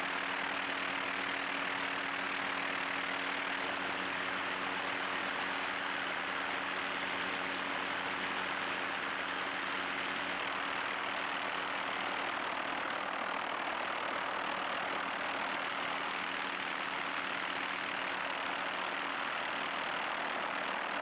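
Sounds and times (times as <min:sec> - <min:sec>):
helicopter drone: 0:00.0 - 0:21.0.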